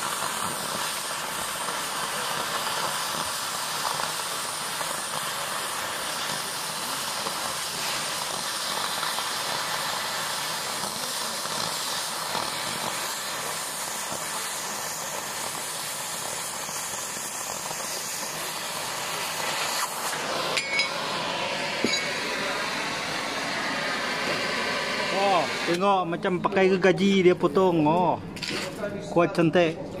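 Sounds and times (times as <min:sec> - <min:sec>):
cutting torch hissing: 0:00.0 - 0:27.7.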